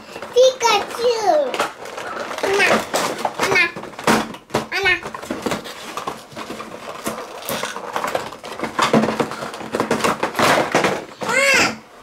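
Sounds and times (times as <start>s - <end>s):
cardboard boxes rustling: 1.0s - 11.2s.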